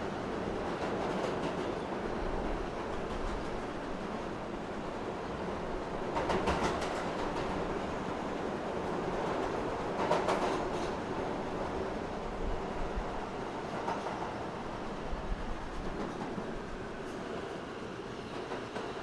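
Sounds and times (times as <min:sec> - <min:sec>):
subway wheels rumbling on rails: 0:00.0 - 0:19.0.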